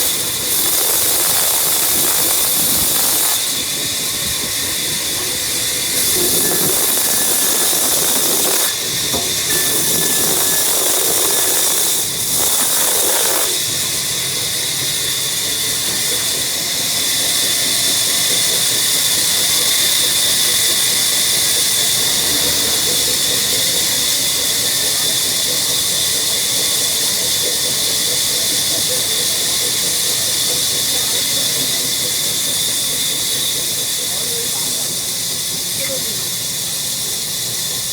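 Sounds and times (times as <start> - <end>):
power woodworking machine whine: 0.0 - 37.9.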